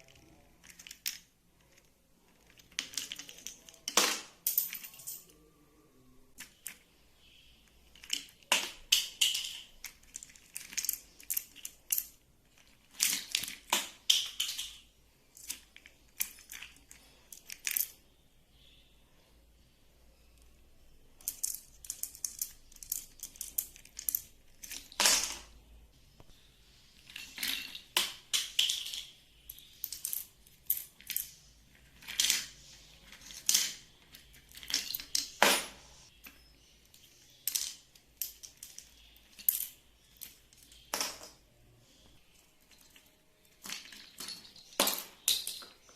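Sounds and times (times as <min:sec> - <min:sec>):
bird toys clinking and clattering: 0:00.0 - 0:05.4, 0:07.9 - 0:18.0, 0:21.2 - 0:25.3, 0:27.0 - 0:35.4, 0:36.1 - 0:41.4, 0:42.3 - 0:45.9.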